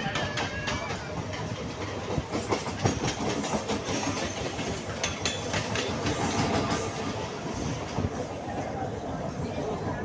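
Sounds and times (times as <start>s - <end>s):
wheels clattering over rail joints: 0.0s - 8.7s
train rumbling on tracks: 0.0s - 10.0s.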